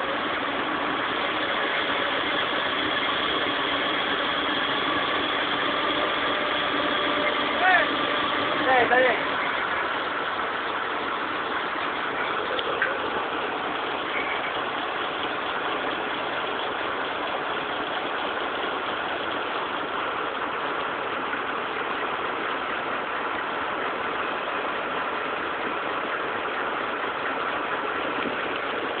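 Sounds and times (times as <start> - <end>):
drill rig machine drone: 0.0 - 29.0
faint steady whine: 0.0 - 29.0.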